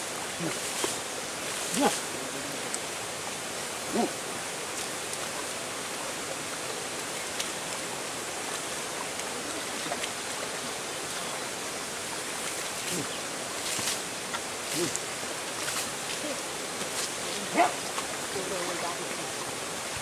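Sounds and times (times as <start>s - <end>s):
flowing spring water: 0.0s - 20.0s.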